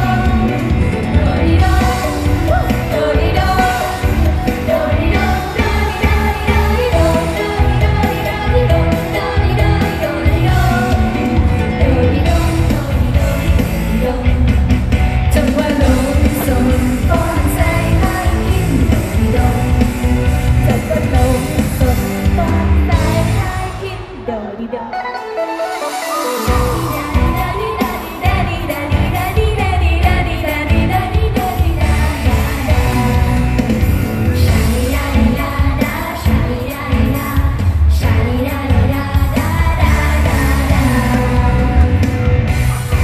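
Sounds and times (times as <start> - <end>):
female group vocals singing: 0.0 - 14.6, 15.3 - 19.9, 26.0 - 33.6, 34.4 - 42.1
pop song over loudspeakers: 0.0 - 43.0.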